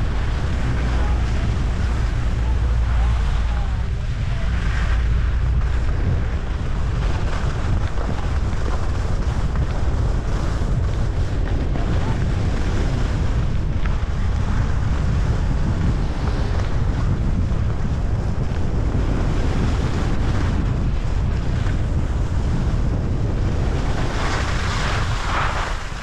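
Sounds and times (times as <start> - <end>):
skis sliding over snow: 0.0 - 26.0
wind buffeting microphone: 0.0 - 26.0.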